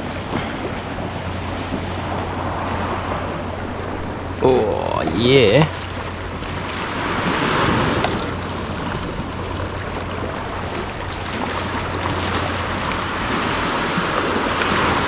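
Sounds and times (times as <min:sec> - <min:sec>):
waves washing onto beach: 0:00.0 - 0:15.0
wind: 0:00.0 - 0:15.0.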